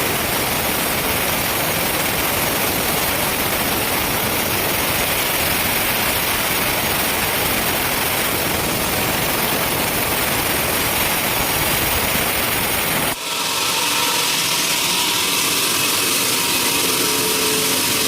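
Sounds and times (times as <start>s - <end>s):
sawmill machinery running: 0.0s - 18.0s.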